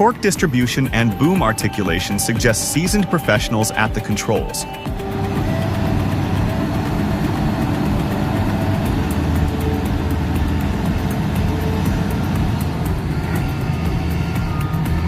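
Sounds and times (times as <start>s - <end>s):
heavy machinery engine humming: 0.0s - 15.0s.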